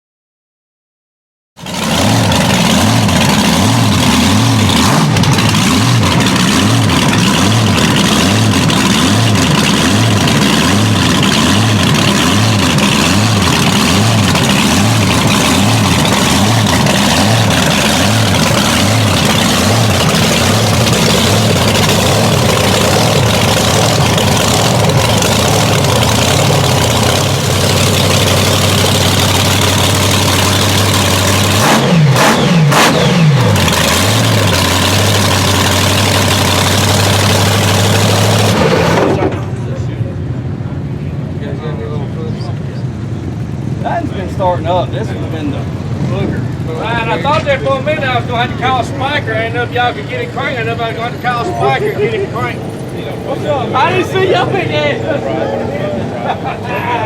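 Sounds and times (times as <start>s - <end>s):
truck engine idling loudly: 1.6s - 57.0s.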